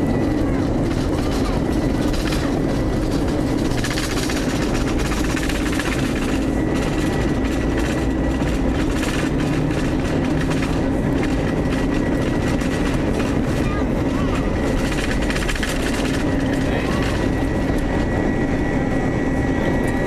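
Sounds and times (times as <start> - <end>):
landing gear rumbling and knocking: 0.0 - 18.7
jet engine noise: 0.0 - 20.0.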